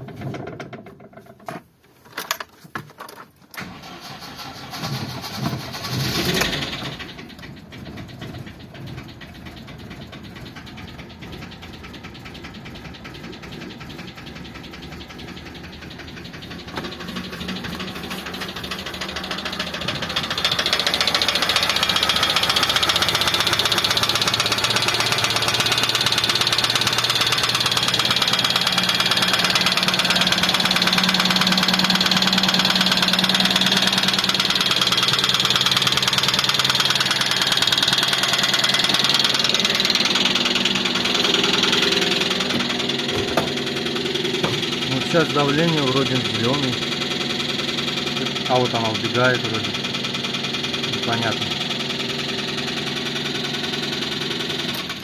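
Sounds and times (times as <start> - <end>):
petrol engine running: 3.6 - 55.0
rapid ticking knock: 6.8 - 51.8.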